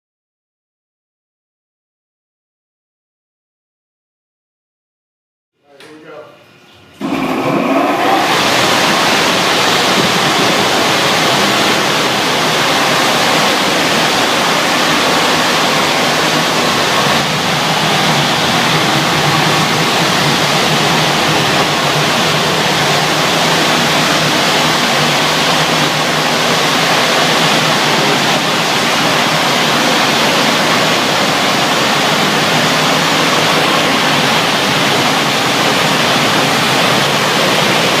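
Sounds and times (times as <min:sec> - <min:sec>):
water rushing in cooling tower: 0:06.8 - 0:38.0.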